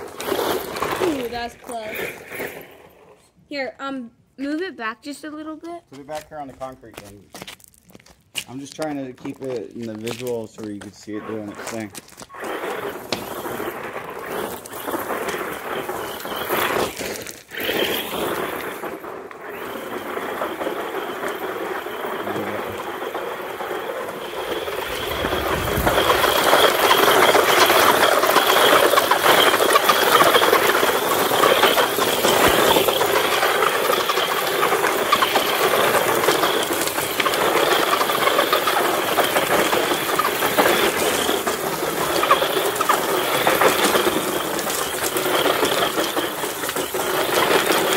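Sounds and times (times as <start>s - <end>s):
tyres scattering gravel: 0.0s - 3.0s, 5.9s - 47.9s
rc truck motor whine: 0.0s - 3.1s, 11.7s - 47.9s.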